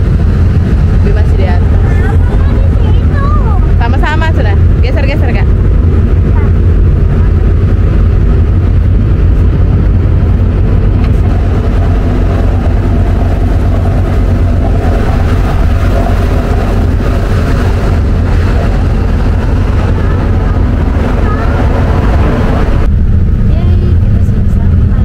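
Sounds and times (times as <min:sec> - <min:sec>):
ferry engines rumbling: 0:00.0 - 0:25.0
water washing along hull: 0:00.0 - 0:25.0.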